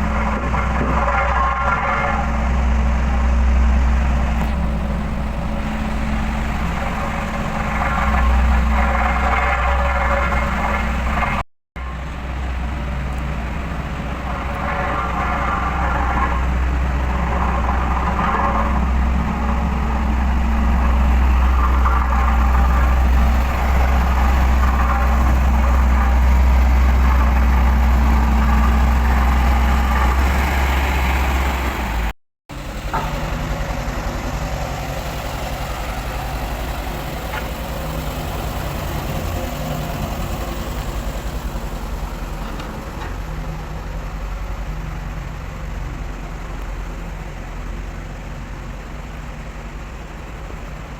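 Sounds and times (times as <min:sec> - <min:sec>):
road roller diesel engine: 0:00.0 - 0:50.9.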